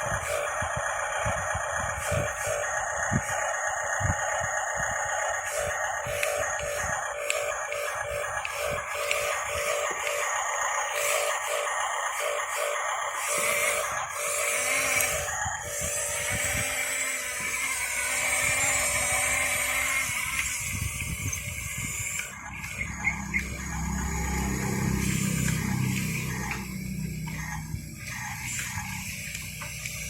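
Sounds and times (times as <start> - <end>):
toy bulldozer motor and gear whine: 0.0 - 30.0.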